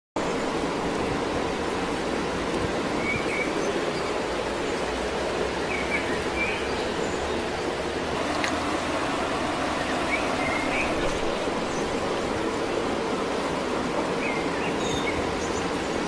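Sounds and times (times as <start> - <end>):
rushing outdoor background noise: 0.2 - 16.0.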